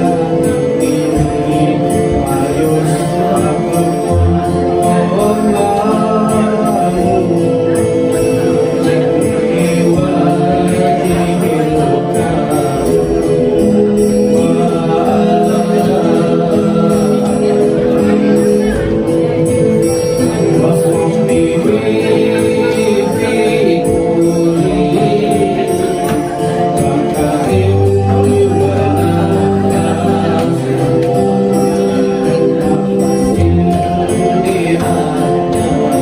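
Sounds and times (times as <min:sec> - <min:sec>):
sustained instrumental tones: 0:00.0 - 0:36.0.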